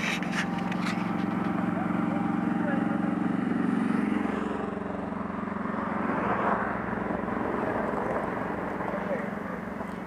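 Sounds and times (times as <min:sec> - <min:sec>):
steady engine hum: 0:00.0 - 0:10.0
vehicle driving past: 0:00.2 - 0:10.0.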